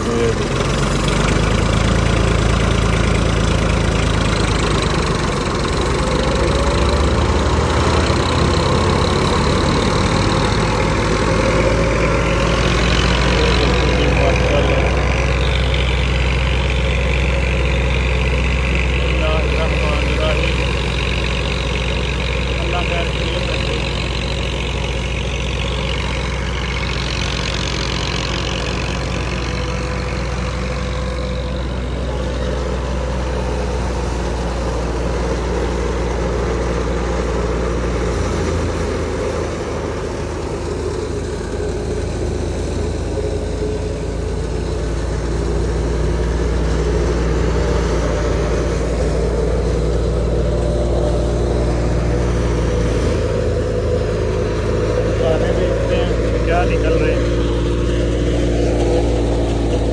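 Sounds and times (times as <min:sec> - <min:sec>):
thresher drum whirring: 0:00.0 - 0:59.9
tractor engine drone: 0:00.0 - 0:59.9.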